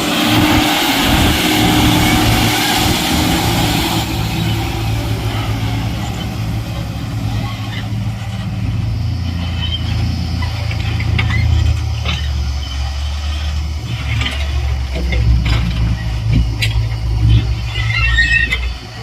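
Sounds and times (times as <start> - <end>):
heavy diesel engine running: 0.0 - 19.0
machinery knocks and clanks: 0.0 - 19.0
machinery squeaks: 0.0 - 19.0.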